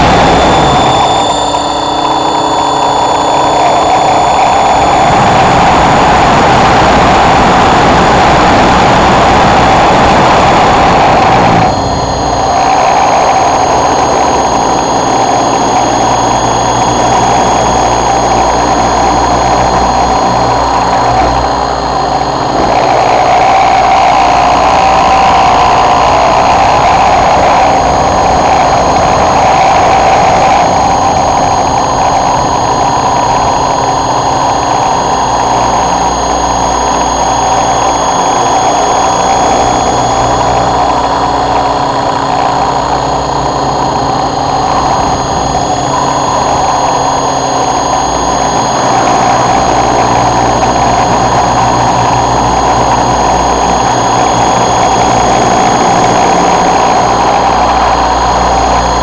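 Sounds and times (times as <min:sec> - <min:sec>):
rc helicopter motor and rotor whine: 0:00.0 - 0:59.0
wind on microphone: 0:00.0 - 0:59.0.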